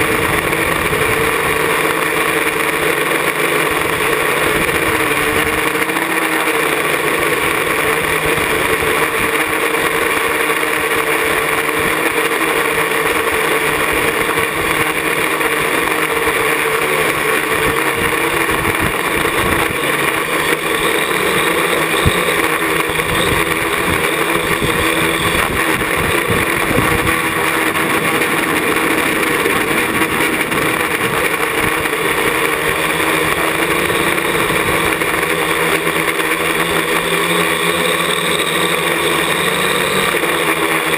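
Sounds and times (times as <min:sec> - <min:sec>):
quadcopter propellers whirring: 0:00.0 - 0:40.9.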